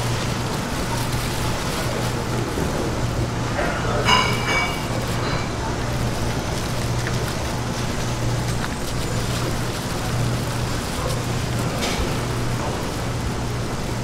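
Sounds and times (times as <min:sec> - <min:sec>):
street market din: 0:00.0 - 0:14.0.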